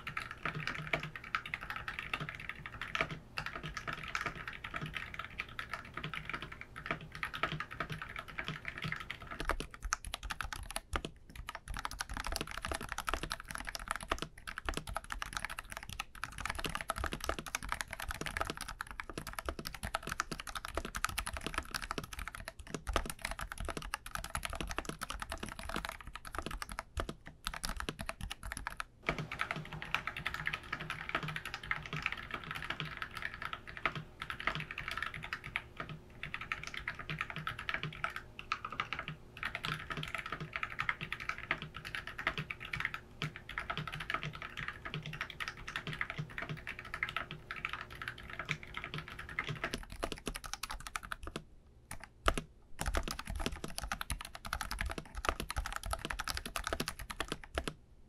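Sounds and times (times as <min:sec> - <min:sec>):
fast typing on a keyboard: 0:00.0 - 0:57.8
faint steady hum: 0:00.0 - 0:58.0.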